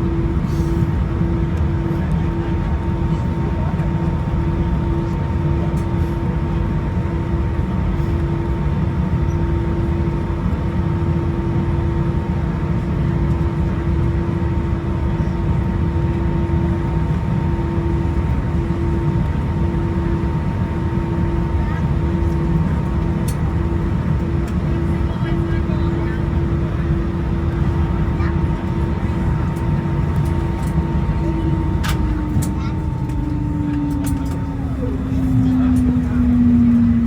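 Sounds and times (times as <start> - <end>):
steady cabin hum: 0.0 - 10.2, 10.8 - 37.0
aircraft engines idling rumble: 0.0 - 37.0.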